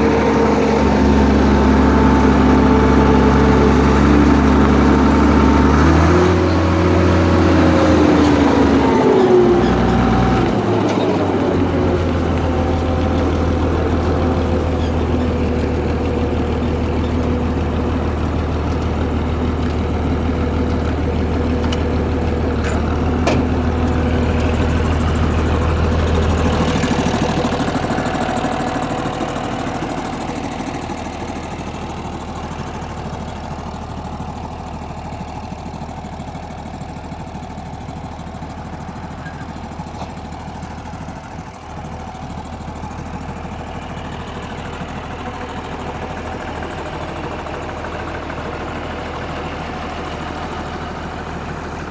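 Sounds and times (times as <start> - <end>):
tractor diesel engine drone: 0.0 - 51.9.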